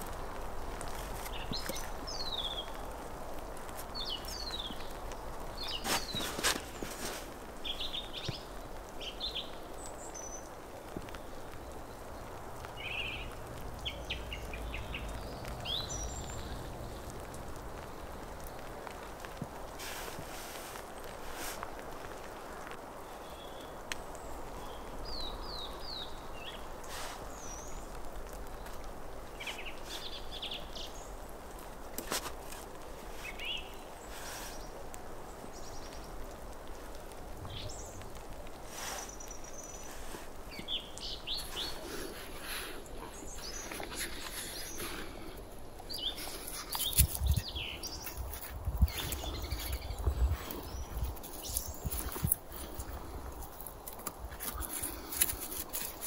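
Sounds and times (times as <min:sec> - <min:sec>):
clicks and rustling of logs: 0:00.0 - 0:56.0
small birds chirping: 0:00.0 - 0:56.0.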